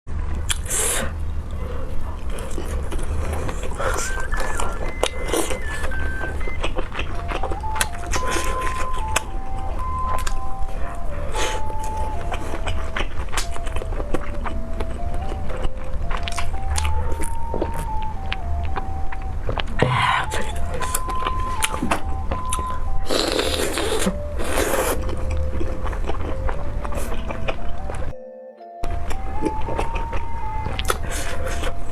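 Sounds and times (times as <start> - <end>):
faint tune of held notes: 0.1 - 31.9
low hum: 0.1 - 31.9
simple electronic melody: 0.2 - 31.9
person biting and chewing: 0.3 - 28.0.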